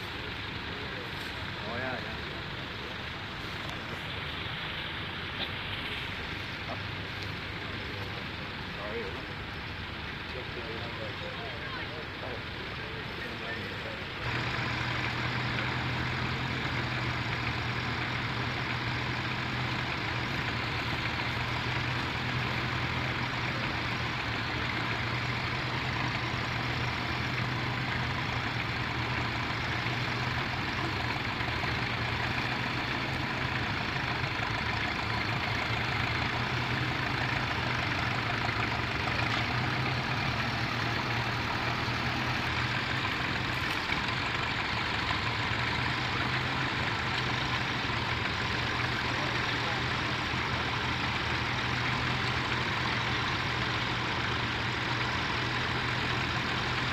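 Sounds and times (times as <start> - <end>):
tractor engine under load: 0.0 - 56.9.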